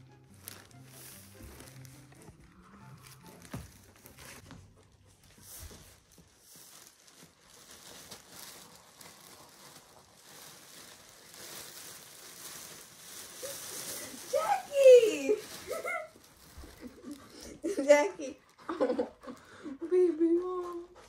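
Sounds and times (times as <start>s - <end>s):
plastic bag crinkling: 0.0s - 4.5s, 5.3s - 20.8s.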